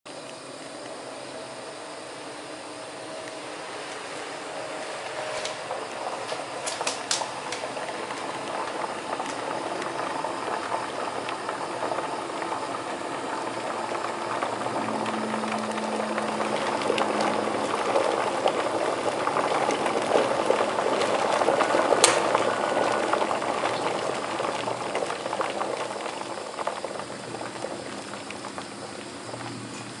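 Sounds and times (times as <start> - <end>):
kettle boiling water: 0.1 - 30.0.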